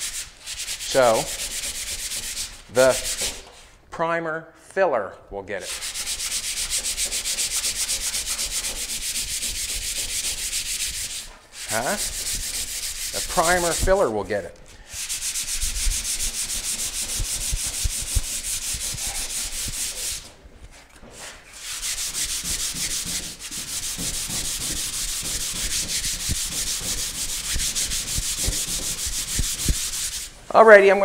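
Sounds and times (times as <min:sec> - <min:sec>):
sandpaper rasping on metal: 0:00.0 - 0:03.6, 0:05.6 - 0:14.1, 0:14.9 - 0:20.3, 0:21.2 - 0:30.4.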